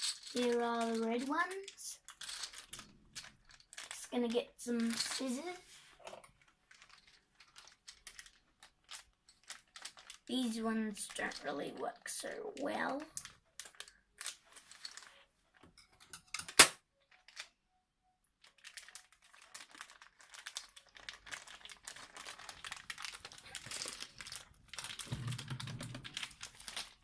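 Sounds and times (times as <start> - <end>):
plastic packaging crinkling: 0.0 - 4.1, 4.7 - 12.1, 12.8 - 15.3, 18.4 - 27.0.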